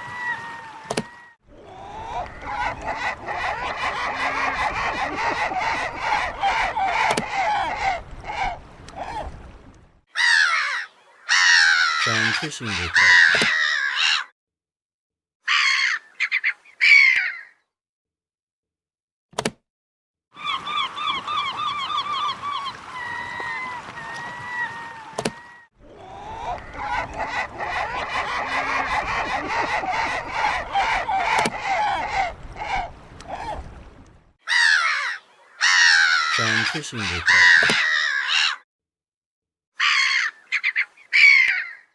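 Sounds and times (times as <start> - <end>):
gulls calling: 0.0 - 14.3, 20.3 - 38.6, 39.8 - 41.9.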